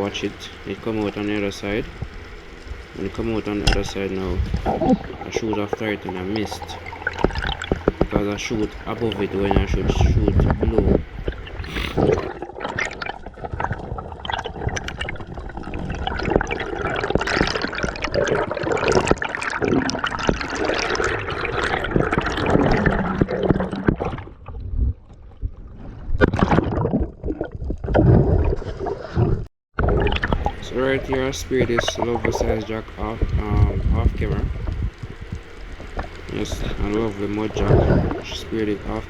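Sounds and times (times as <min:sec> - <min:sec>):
water sloshing and gurgling: 0:00.0 - 0:39.0.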